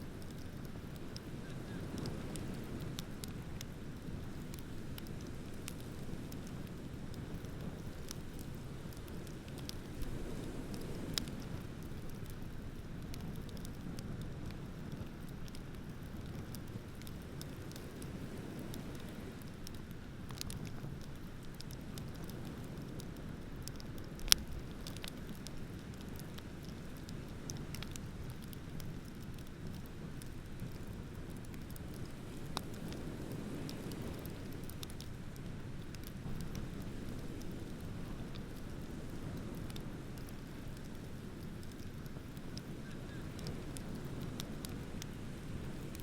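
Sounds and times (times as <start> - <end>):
bonfire crackling and popping: 0.0 - 46.0.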